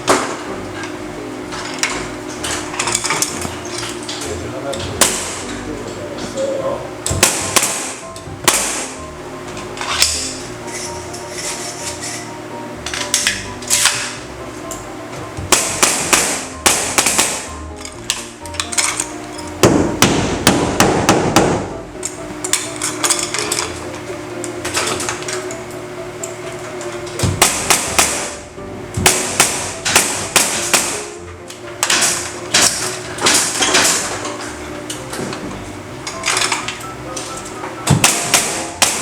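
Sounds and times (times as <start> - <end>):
background music: 0.0 - 39.0.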